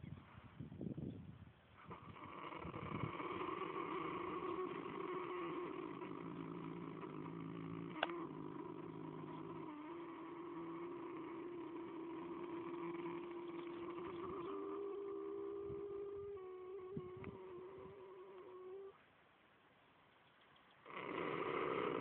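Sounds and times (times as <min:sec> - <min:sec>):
horse snoring: 0:01.8 - 0:18.9, 0:20.8 - 0:22.0.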